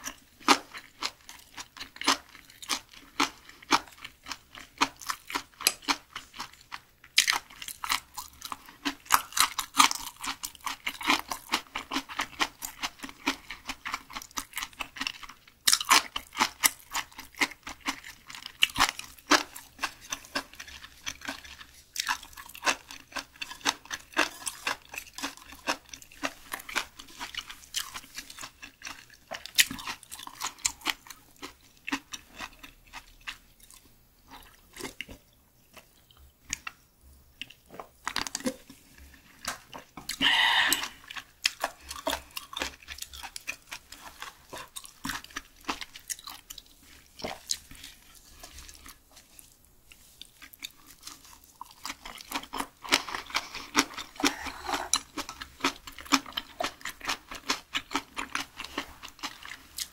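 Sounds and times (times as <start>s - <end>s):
wet crunchy chewing: 0.0s - 36.8s, 37.4s - 59.9s.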